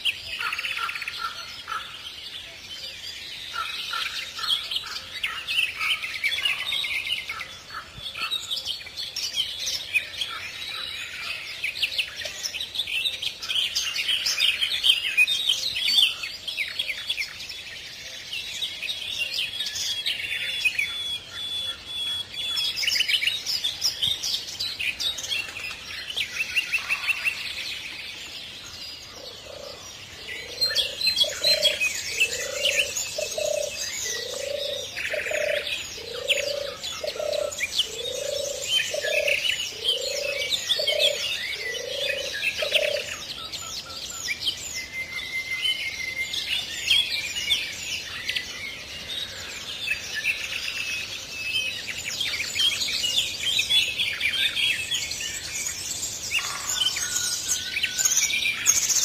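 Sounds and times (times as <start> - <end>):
small birds chirping and trilling: 0.0 - 59.0.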